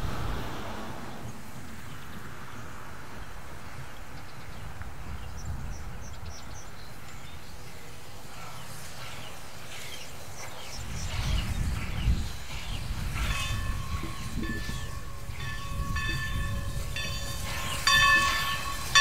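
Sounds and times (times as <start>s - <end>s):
small birds chirping: 1.1s - 19.0s.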